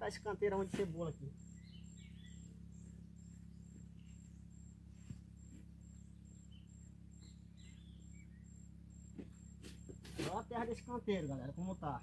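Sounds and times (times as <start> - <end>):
faint bird chirps: 0.0 - 12.0
faint insect chirping: 0.0 - 12.0.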